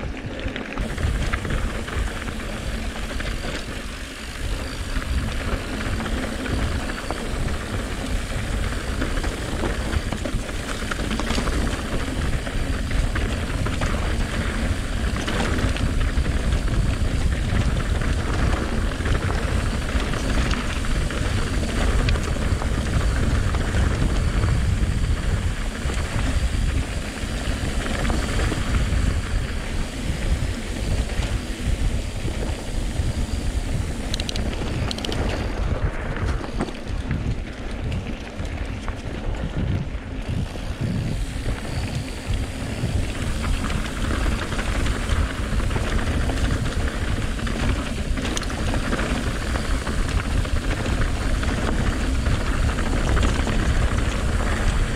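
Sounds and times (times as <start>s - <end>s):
bike clicks and rattles: 0.0s - 54.9s
tyres rolling on dirt trail: 0.0s - 54.9s
wind buffeting microphone: 0.0s - 54.9s.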